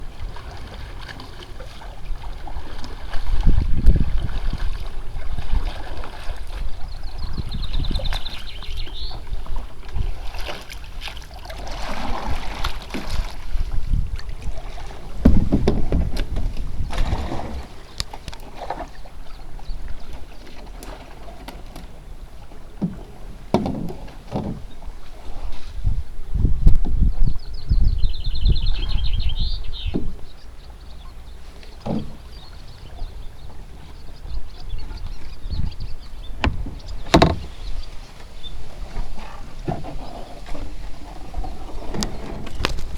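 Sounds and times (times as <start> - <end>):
wind buffeting microphone: 0.0 - 20.4, 21.2 - 42.9
water noise: 0.0 - 42.9.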